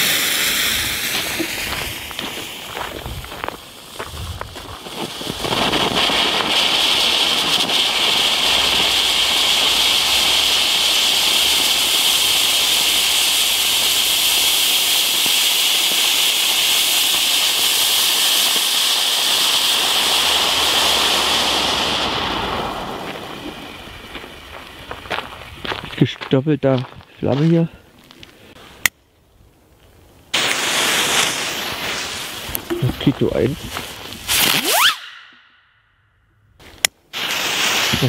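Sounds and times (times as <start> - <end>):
firework fountain hissing: 0.0 - 26.3, 30.0 - 35.6, 36.6 - 38.0.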